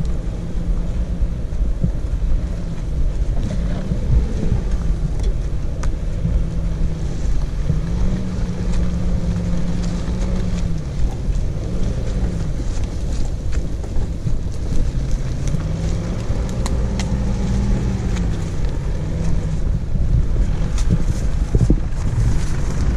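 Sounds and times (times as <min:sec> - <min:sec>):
off-road engine revving: 0:00.0 - 0:22.9
wind buffeting microphone: 0:00.0 - 0:22.9.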